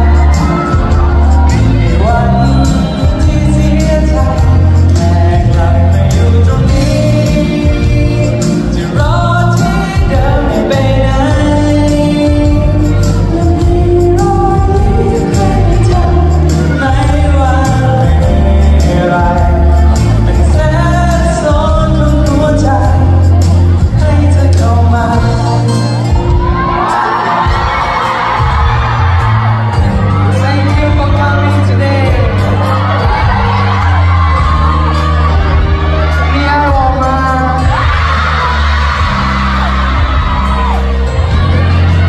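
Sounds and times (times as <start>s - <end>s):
backing track with bass: 0.0s - 42.0s
man singing pop song: 0.0s - 42.0s.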